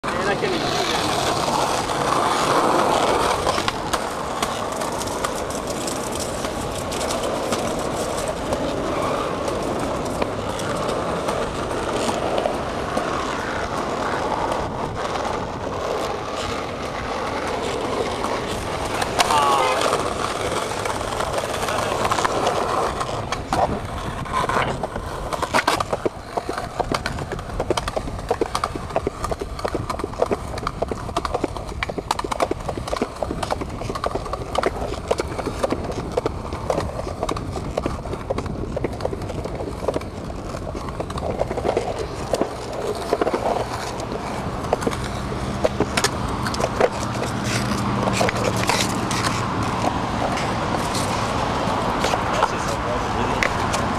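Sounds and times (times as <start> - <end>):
skateboard wheels clacking over joints: 0.0 - 53.9
skateboard wheels rolling on concrete: 0.0 - 53.9.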